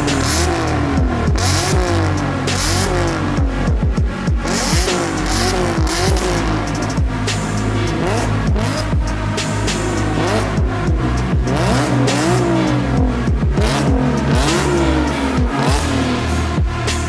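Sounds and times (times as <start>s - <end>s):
car engine revving: 0.0s - 17.0s
electronic music with steady beat: 0.0s - 17.0s.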